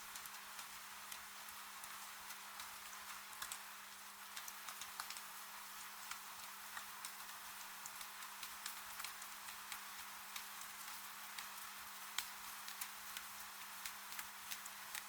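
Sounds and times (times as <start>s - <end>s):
light rain: 0.0s - 15.0s
raindrops ticking on surface: 0.0s - 15.0s.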